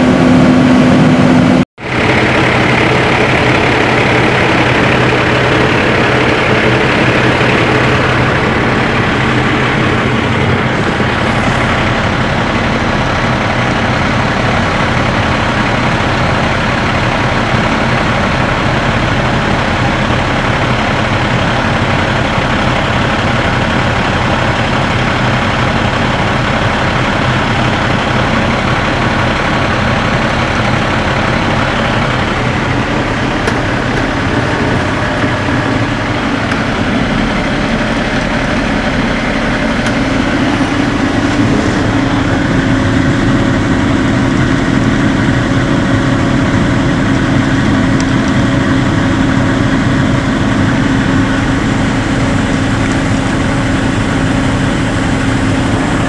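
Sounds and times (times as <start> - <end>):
diesel truck engine idling: 0.0 - 56.0
steady hum: 0.0 - 56.0.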